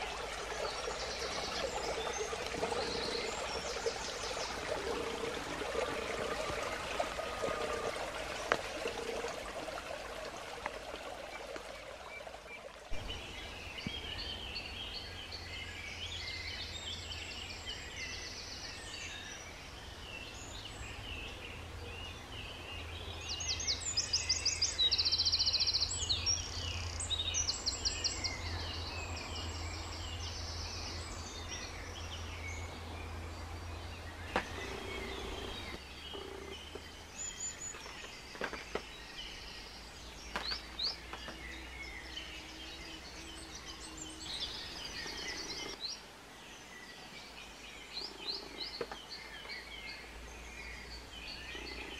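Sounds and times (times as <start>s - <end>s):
stream running: 0.0s - 51.9s.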